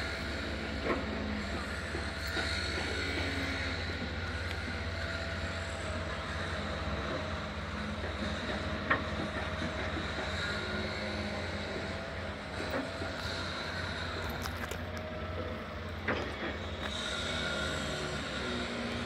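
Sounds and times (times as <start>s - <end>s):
faint hums: 0.0s - 19.0s
low outdoor rumble: 0.0s - 19.0s.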